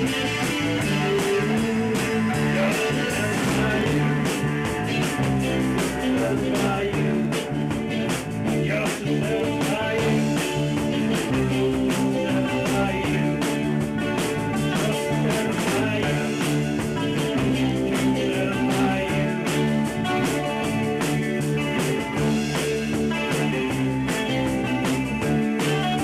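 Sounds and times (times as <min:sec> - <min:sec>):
drum kit beat: 0:00.0 - 0:26.0
electric guitars holding chords: 0:00.0 - 0:26.0.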